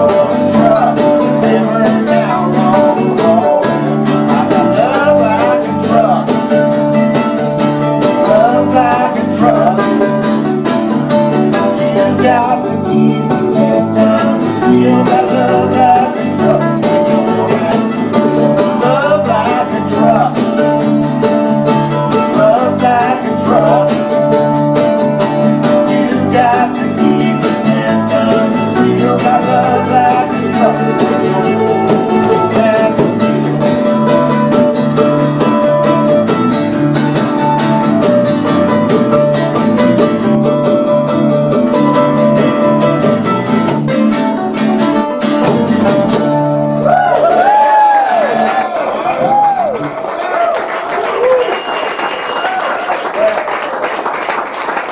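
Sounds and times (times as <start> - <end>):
mandolin: 0.0 - 50.5
acoustic string band playing: 0.0 - 52.5.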